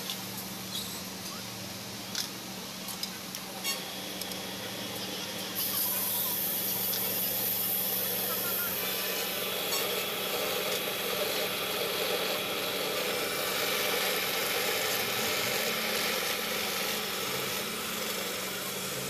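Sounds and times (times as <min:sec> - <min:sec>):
drill press motor hum: 0:03.5 - 0:19.0
tool grinding metal disc: 0:03.6 - 0:19.0.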